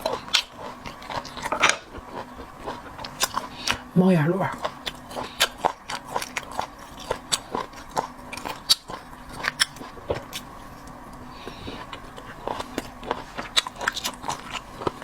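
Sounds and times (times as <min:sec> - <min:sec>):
crunching and chewing: 0:00.0 - 0:15.0.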